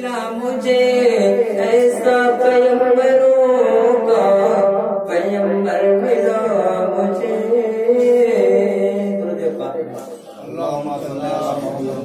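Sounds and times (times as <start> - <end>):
man singing into a microphone: 0.0 - 10.4.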